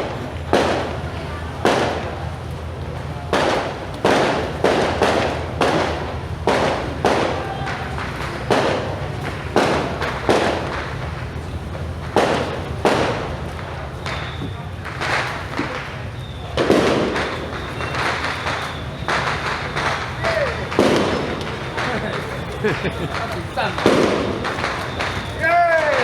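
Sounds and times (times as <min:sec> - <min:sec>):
firecrackers banging: 0:00.0 - 0:26.0.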